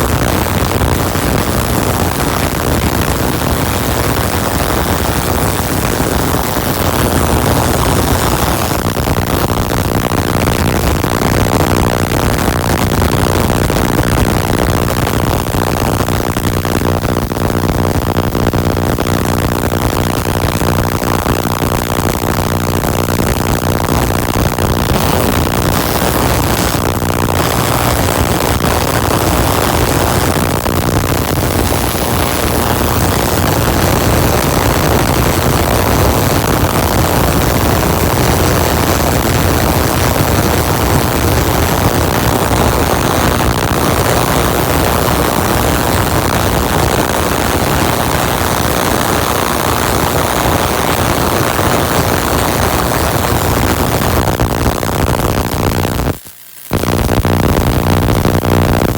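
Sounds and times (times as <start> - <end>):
tesla coil spark gap buzzing: 0.0 - 58.9.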